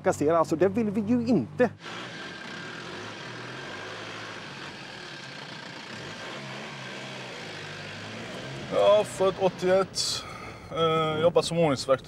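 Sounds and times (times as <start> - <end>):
tyre and road noise: 0.0 - 12.0
car engine running: 0.5 - 11.3.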